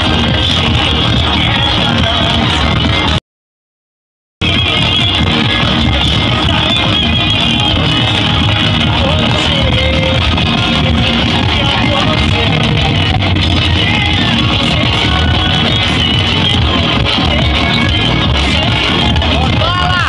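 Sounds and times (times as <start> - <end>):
guitar: 0.0 - 3.2, 4.4 - 20.0
loud music over car sound system: 0.0 - 3.2, 4.4 - 20.0
person singing: 0.0 - 3.2, 4.4 - 20.0.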